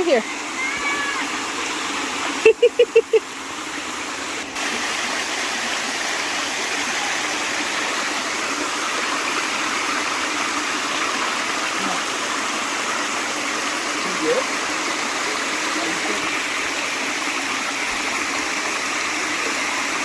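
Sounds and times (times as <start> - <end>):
waterfall and creek rushing: 0.0 - 20.0.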